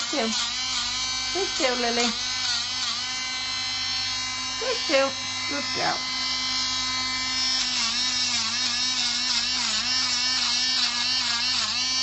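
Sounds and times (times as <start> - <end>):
pet nail grinder whining: 0.0 - 12.0.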